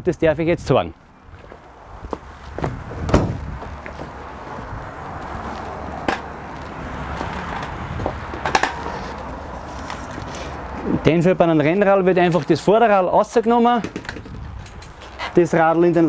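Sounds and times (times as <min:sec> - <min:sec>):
outdoor noise: 0:00.0 - 0:16.0.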